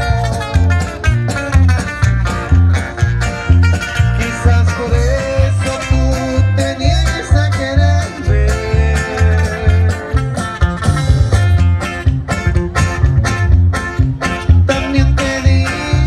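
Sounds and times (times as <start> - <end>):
live band playing: 0.0 - 16.0
steady bass beat: 0.0 - 16.0.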